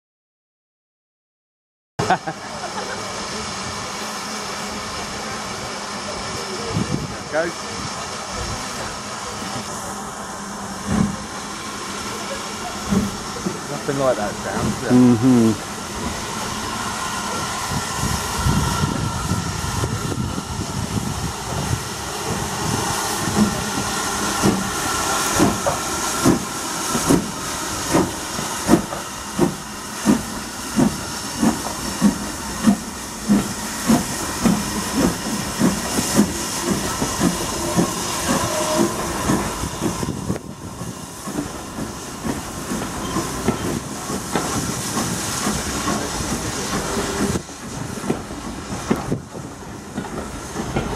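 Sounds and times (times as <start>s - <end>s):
train coaches rolling by: 2.0s - 50.9s
hiss of steam: 2.1s - 50.9s
steam locomotive exhaust chuffs: 2.6s - 50.9s.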